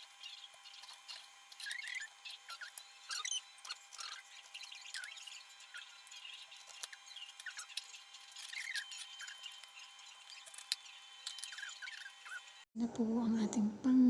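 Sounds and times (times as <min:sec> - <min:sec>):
high-pitched chirps and squeaks: 0:00.0 - 0:12.7.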